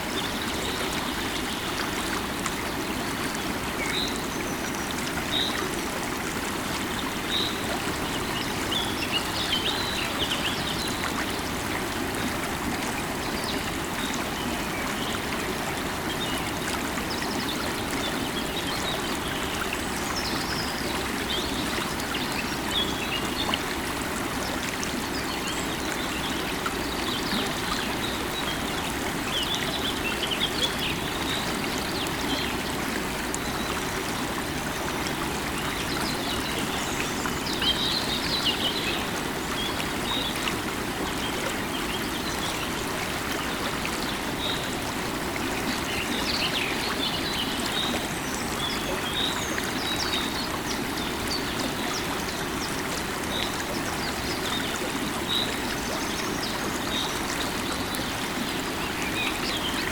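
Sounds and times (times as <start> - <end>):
river water running: 0.0 - 59.9.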